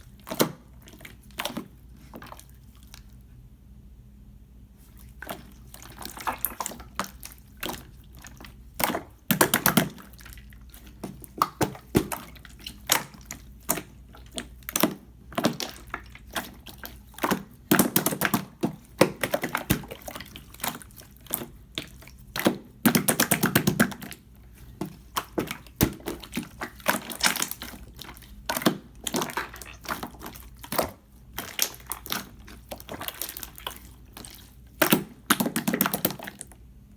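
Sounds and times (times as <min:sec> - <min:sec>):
slime squishing with sticky clicks: 0:00.0 - 0:03.3, 0:04.8 - 0:36.7
dense crackling of slime: 0:05.0 - 0:36.6.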